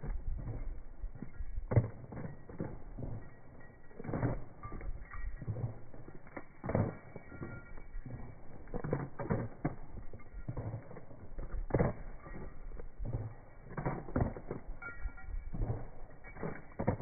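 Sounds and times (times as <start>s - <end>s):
hooves on gravel: 0.0s - 17.0s
leather saddles creaking: 0.4s - 17.0s.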